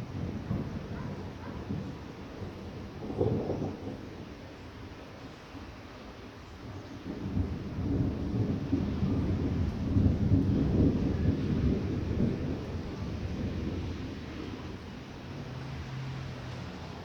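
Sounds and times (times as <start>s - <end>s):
rumble of thunder: 0.0s - 5.0s, 6.7s - 16.3s
light rain hiss: 0.0s - 17.0s.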